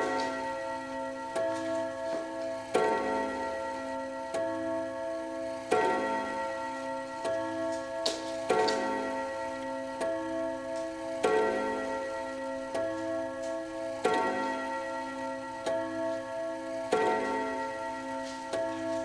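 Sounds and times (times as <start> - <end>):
clock pendulum ticking: 0.0 - 19.0.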